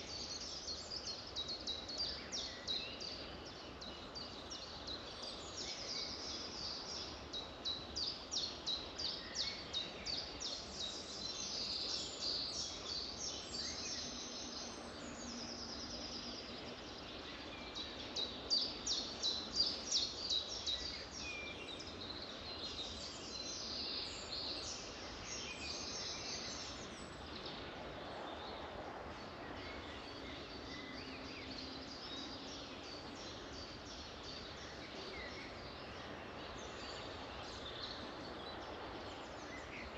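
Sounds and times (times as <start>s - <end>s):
background hiss: 0.0s - 39.9s
songbirds singing and chirping: 0.0s - 39.9s.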